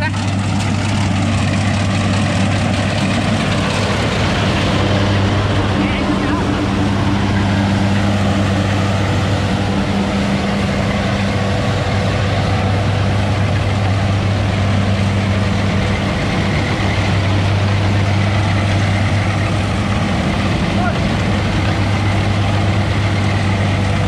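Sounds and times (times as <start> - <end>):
harvester engine drone: 0.0 - 24.0.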